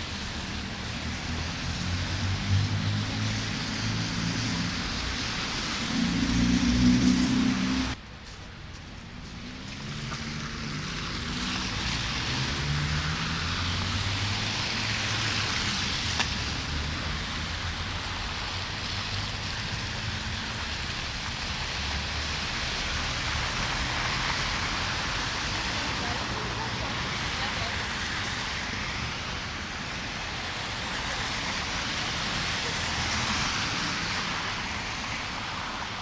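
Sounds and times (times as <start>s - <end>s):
vehicle passing on snowy road: 0.0s - 8.0s, 8.8s - 36.0s.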